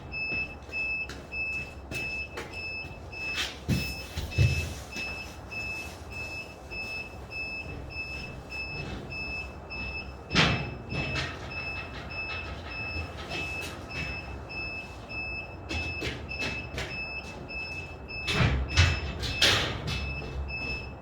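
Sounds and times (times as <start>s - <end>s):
electronic warning beeper: 0.1s - 21.0s.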